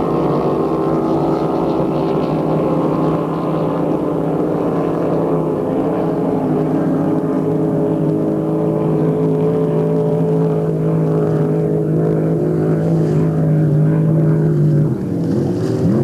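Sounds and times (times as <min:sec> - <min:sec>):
racing boat engines whining: 0:00.0 - 0:16.0.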